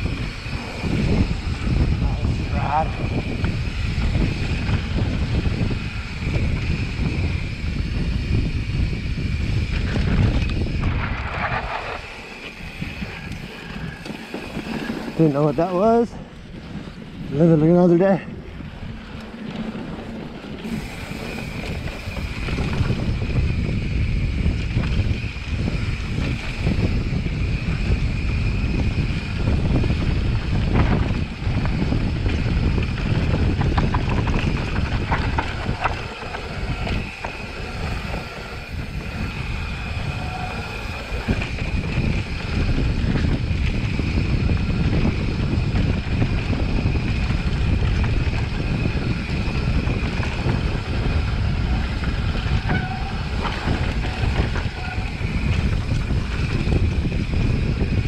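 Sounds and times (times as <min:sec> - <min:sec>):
bike rattling clicks: 0:00.0 - 0:15.9, 0:18.4 - 0:58.0
steady high whine: 0:00.0 - 0:58.0
tyres rumbling over dirt trail: 0:00.0 - 0:58.0
wind buffeting microphone: 0:00.0 - 0:58.0.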